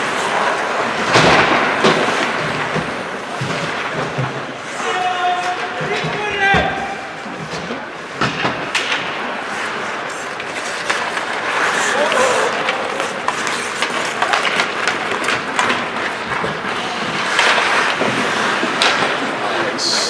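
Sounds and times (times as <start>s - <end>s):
hockey sticks and puck clacking: 0.0s - 20.0s
skates scraping on ice: 0.0s - 20.0s.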